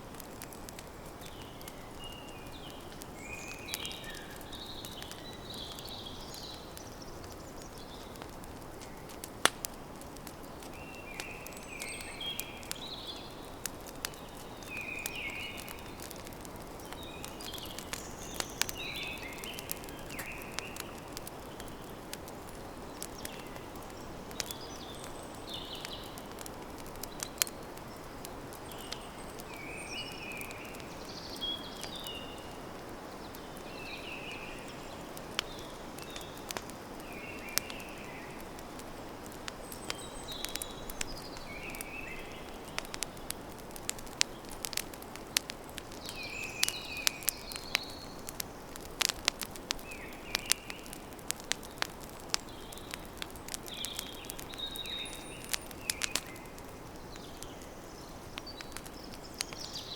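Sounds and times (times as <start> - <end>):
campfire crackling and popping: 0.0 - 59.9
small birds chirping: 0.2 - 59.9.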